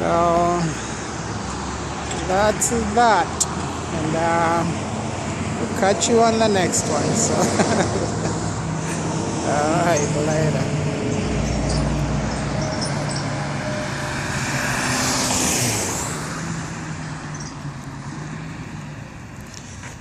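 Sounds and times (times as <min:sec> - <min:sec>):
road traffic noise: 0:00.0 - 0:20.0
vehicle passing close by: 0:00.7 - 0:19.4.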